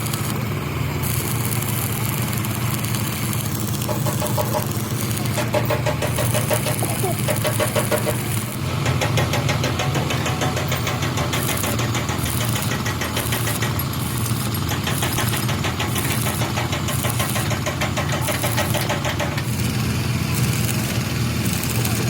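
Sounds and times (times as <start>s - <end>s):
engine clattering: 0.0s - 22.0s.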